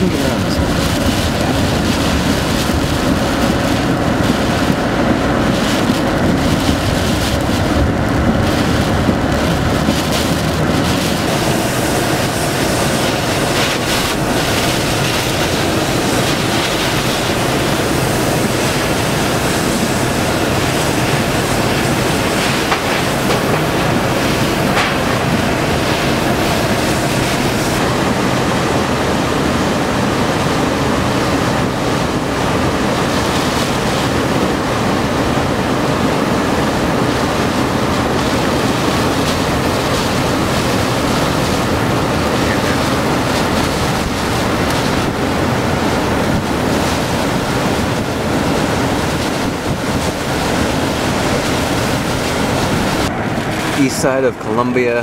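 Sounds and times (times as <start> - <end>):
heavy driving rain: 0.0 - 55.0
strong wind: 0.0 - 55.0
wind buffeting microphone: 0.0 - 55.0.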